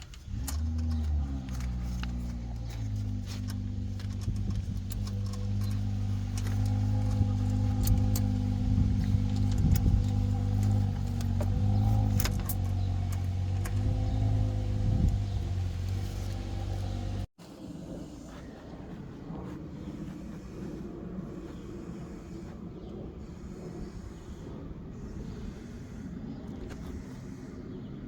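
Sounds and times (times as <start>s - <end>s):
steady mechanical hum: 0.0s - 27.7s.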